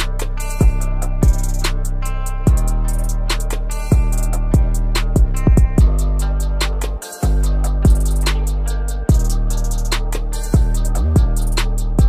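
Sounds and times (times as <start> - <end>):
bass line: 0.0 - 12.0
beat music: 0.0 - 12.0
ticking hi-hats: 0.0 - 12.0.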